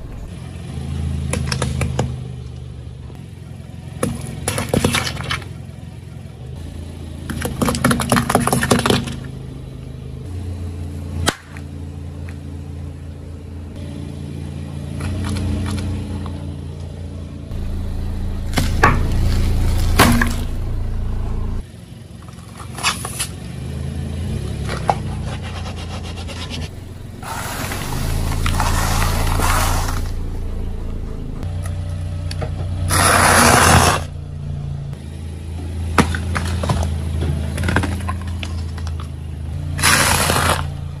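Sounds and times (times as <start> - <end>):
car engine running low: 0.0 - 41.0.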